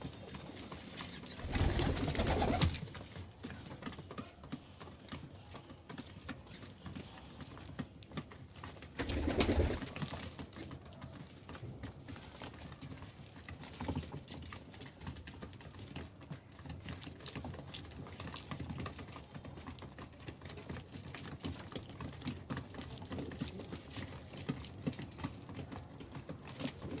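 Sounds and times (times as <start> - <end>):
pigeons pecking: 0.0 - 27.0.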